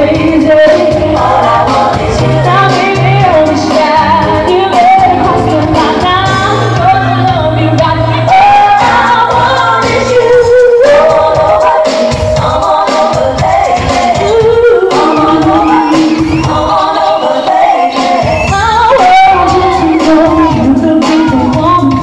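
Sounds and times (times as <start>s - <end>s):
girl singing pop song: 0.0s - 22.0s
pop backing track with bass: 0.0s - 22.0s.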